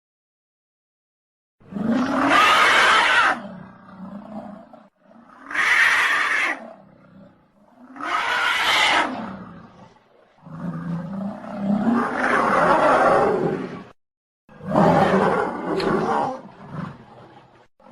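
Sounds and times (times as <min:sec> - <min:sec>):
dinosaur roars: 0:01.6 - 0:17.7.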